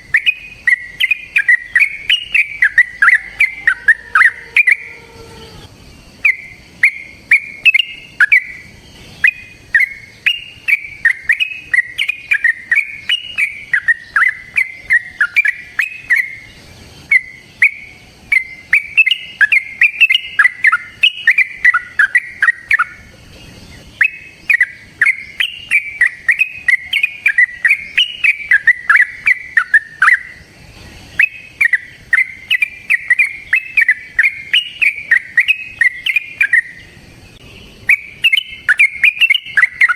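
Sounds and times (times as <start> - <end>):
bird singing bubbly chirps: 0.0 - 39.9.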